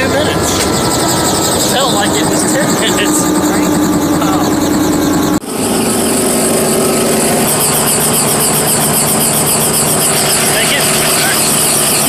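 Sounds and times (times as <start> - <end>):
helicopter engine and rotor: 0.0 - 12.0.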